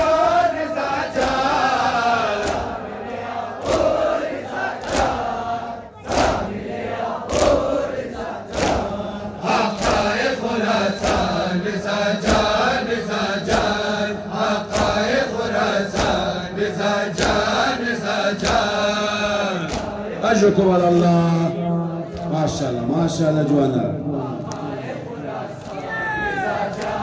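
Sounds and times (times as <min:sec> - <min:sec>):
men chanting a lament: 0:00.0 - 0:27.0.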